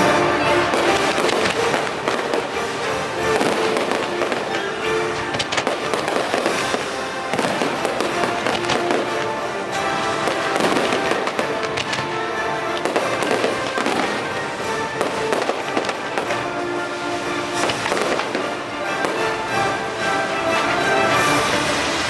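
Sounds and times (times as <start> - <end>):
fireworks bangs: 0.0 - 22.0
orchestral music over speakers: 0.0 - 22.0.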